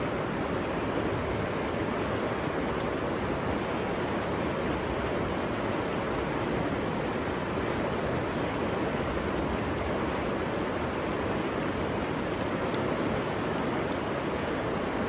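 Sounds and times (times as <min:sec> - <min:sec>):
river water running over rocks: 0:00.0 - 0:15.0.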